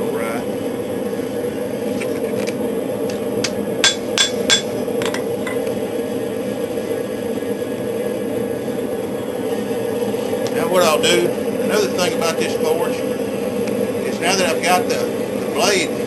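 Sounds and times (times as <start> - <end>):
forge blower rushing: 0.0 - 16.0.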